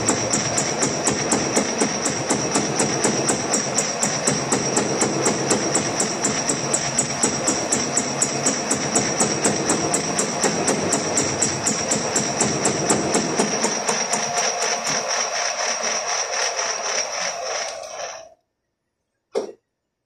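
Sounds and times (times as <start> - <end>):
gear cutting machine whine: 0.0 - 18.4.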